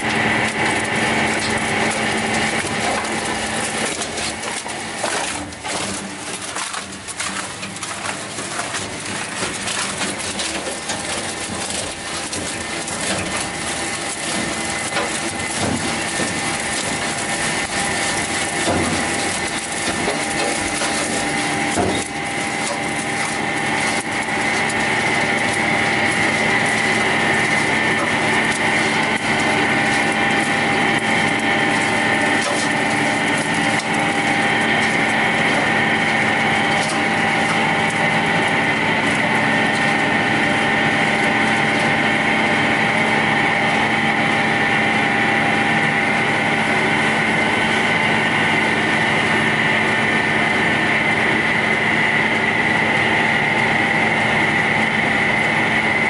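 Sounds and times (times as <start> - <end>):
wood scraps crackling: 0.0 - 45.2
wood shredder humming and whining: 0.0 - 56.0.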